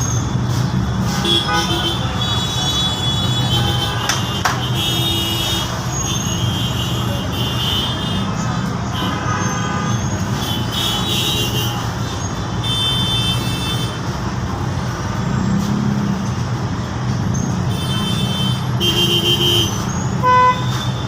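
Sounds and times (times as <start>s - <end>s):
low rumble of heavy traffic: 0.0s - 21.0s.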